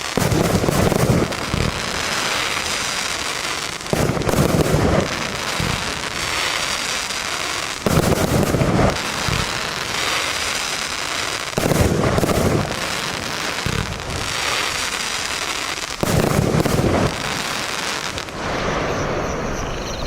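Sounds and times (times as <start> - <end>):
firework booming bursts: 0.0 - 7.0, 7.7 - 10.8, 11.4 - 19.8
firework battery crackling: 0.0 - 19.8.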